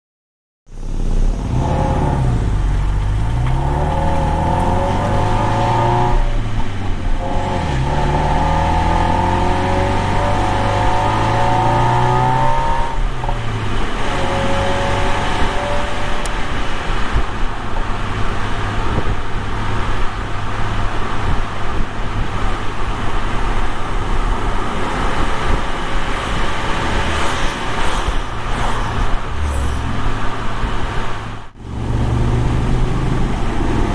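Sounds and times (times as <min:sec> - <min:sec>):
turbocharged car engine revving: 0:00.7 - 0:33.9.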